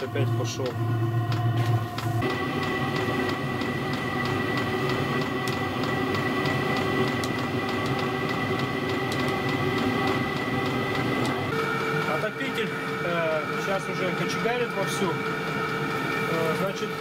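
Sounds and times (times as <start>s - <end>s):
blower fan whining: 0.0s - 17.0s.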